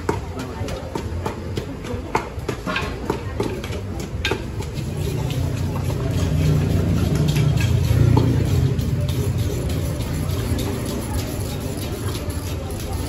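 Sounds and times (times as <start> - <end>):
pestle knocking in mortar: 0.0 - 13.0.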